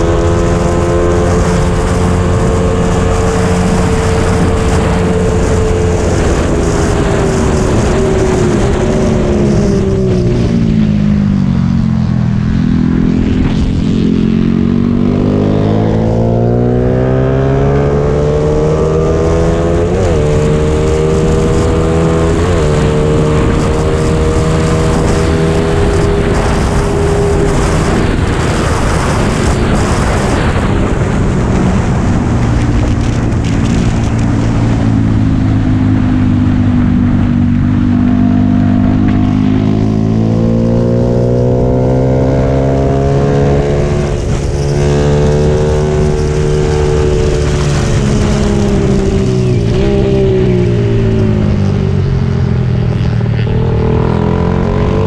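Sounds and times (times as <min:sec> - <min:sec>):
motorcycle engine at speed: 0:00.0 - 0:55.0.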